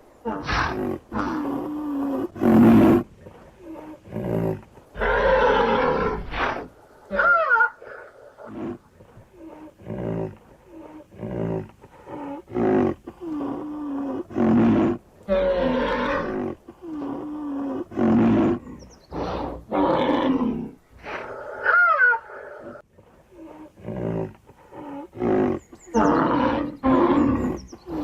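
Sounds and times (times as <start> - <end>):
rhinoceros calling: 0.2 - 28.0.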